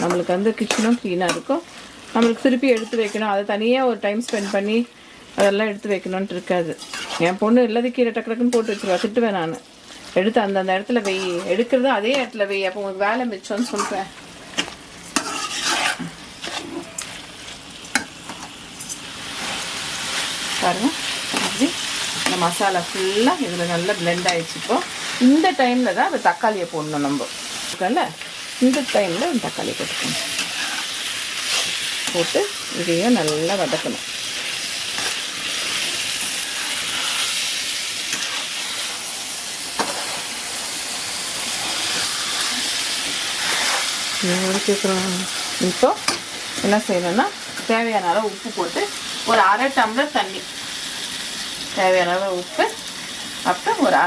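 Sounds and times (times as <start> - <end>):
meat sizzling in oil: 0.0 - 54.0.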